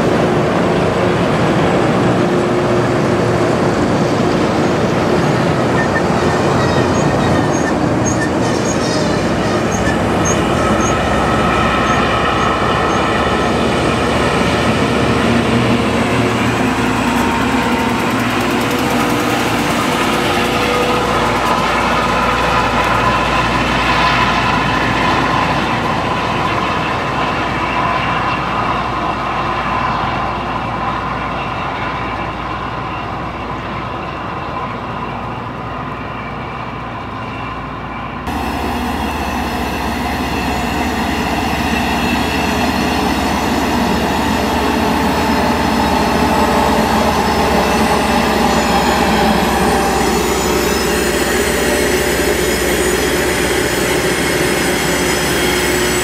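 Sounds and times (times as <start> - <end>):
rail grinder train passing: 0.0 - 56.0.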